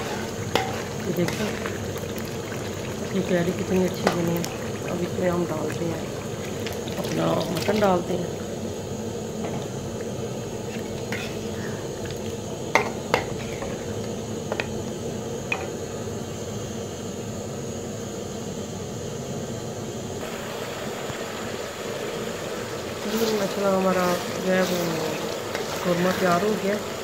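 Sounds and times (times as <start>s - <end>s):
curry simmering hiss: 0.0s - 27.0s.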